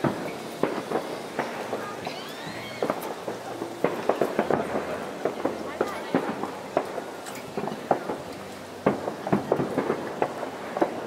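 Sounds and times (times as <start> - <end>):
firecrackers popping: 0.0 - 11.0
outdoor hiss: 0.0 - 11.0.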